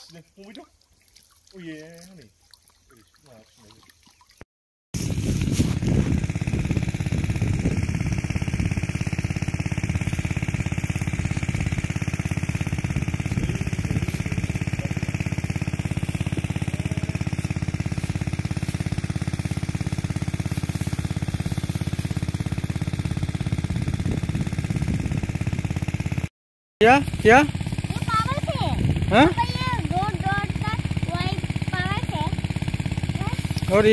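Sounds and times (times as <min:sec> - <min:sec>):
water pump engine chugging: 0:00.0 - 0:04.4, 0:05.0 - 0:33.9.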